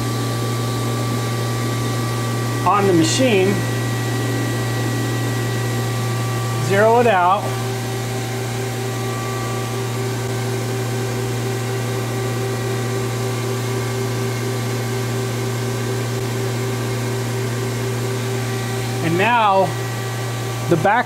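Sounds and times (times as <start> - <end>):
lathe machine hum: 0.0 - 21.0.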